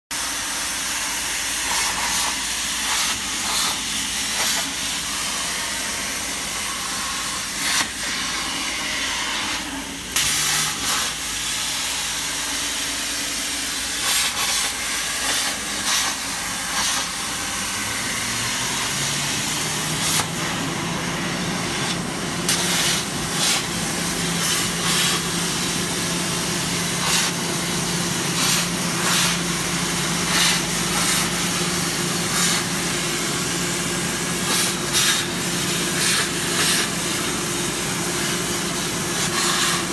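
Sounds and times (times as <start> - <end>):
plasma cutter hissing: 0.2 - 39.9.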